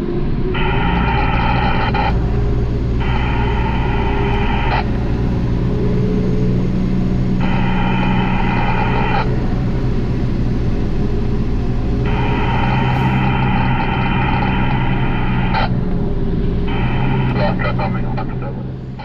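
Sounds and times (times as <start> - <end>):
garbage truck engine running: 0.0 - 19.0
high multi-toned alarm: 0.4 - 19.0.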